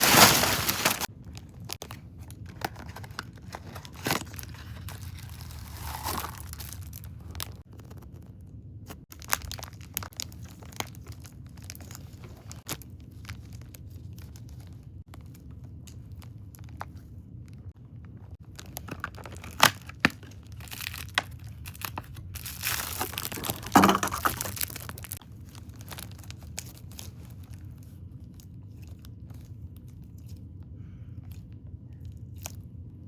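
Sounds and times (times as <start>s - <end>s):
packaging crinkling and tearing: 0.0s - 17.7s, 18.4s - 30.5s.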